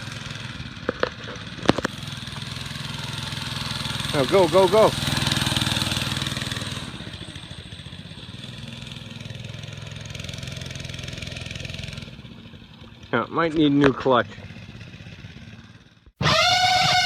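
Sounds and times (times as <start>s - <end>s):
mini bike engine running: 0.0s - 17.0s.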